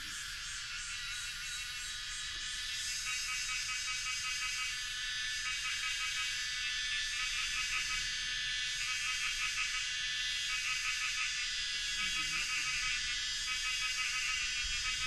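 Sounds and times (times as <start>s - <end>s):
insects buzzing: 0.0s - 15.0s
insects pulsing notes: 0.0s - 15.0s.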